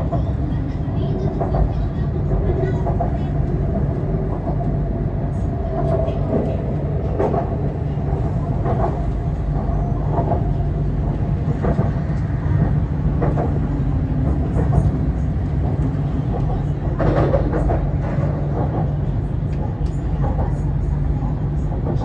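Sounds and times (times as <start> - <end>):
light rail clacks: 0.0 - 22.0
train wheels rumbling on rails: 0.0 - 22.0.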